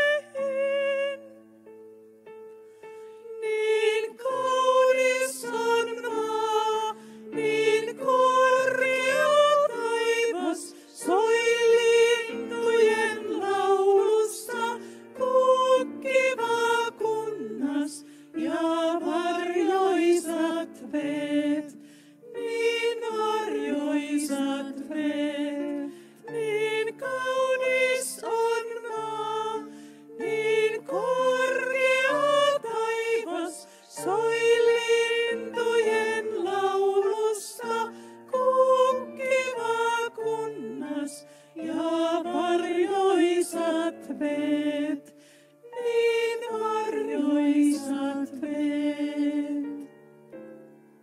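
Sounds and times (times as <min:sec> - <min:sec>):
woman singing: 0:00.0 - 0:01.4, 0:03.3 - 0:45.1, 0:45.7 - 0:49.8
grand piano: 0:00.0 - 0:51.0.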